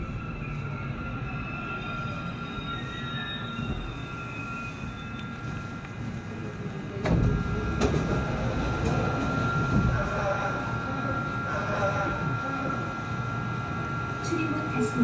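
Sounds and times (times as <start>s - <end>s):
high-pitched whine: 0.0s - 15.0s
subway train rumbling in tunnel: 0.0s - 15.0s.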